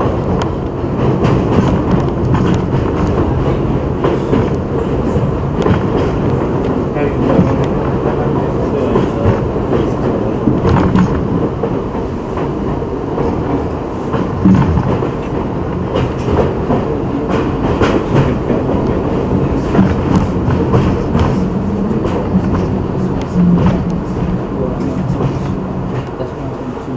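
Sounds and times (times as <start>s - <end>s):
wheels clicking over rail joints: 0.0s - 26.5s
subway train rumble: 0.0s - 26.9s.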